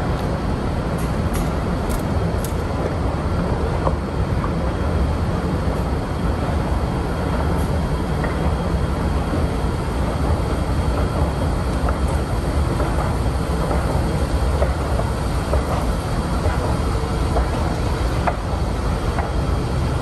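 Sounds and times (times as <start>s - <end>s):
escalator mechanical rumble: 0.0s - 20.0s.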